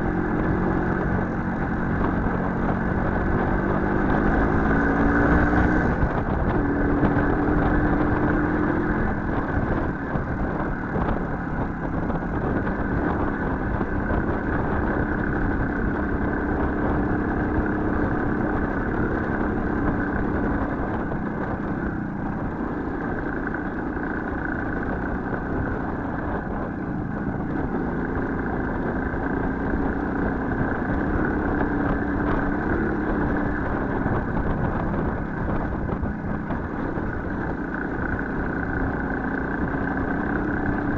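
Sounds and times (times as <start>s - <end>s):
small motorcycle engine running: 0.0s - 40.9s.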